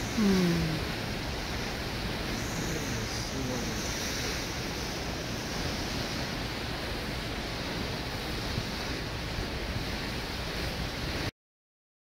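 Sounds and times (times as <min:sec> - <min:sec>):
water rushing: 0:00.0 - 0:11.3
wind buffeting microphone: 0:00.0 - 0:11.3.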